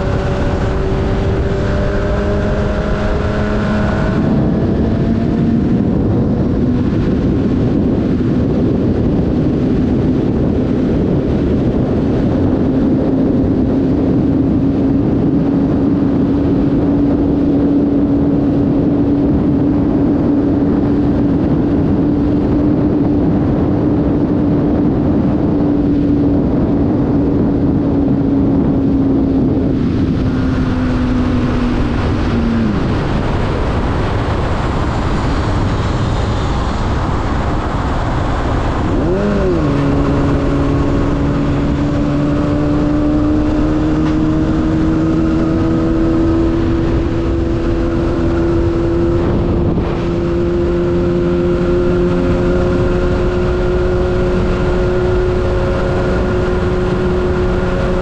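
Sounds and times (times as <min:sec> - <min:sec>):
motorcycle engine droning: 0:00.0 - 0:58.0
wind noise: 0:00.0 - 0:58.0.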